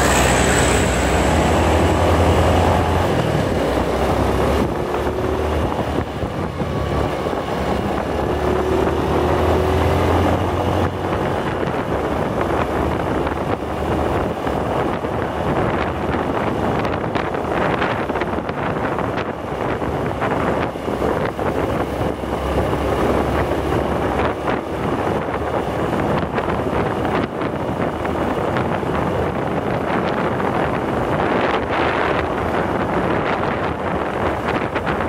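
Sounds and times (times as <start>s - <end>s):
low traffic hum: 0.0s - 35.0s
motorcycle engine and road noise: 0.0s - 35.0s
wind buffeting microphone: 0.0s - 35.0s.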